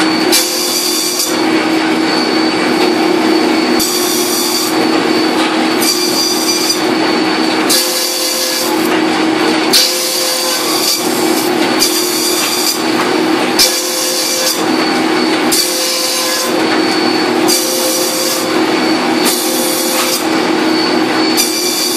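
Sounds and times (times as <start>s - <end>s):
high-pitched grinding: 0.0s - 21.9s
machine motor hum: 0.0s - 21.9s.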